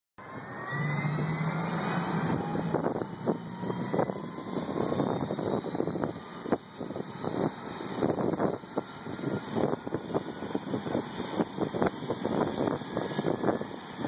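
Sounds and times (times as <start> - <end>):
helicopter turbine spooling up: 0.2 - 14.0
wind buffeting microphone: 2.3 - 14.0.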